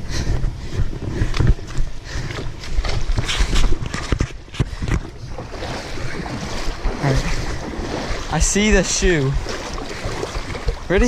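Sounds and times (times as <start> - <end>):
footsteps on rocks: 0.3 - 10.7.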